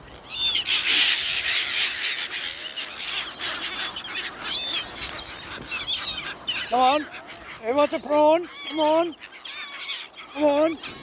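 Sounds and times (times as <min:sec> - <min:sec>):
gulls squawking: 0:00.2 - 0:11.0.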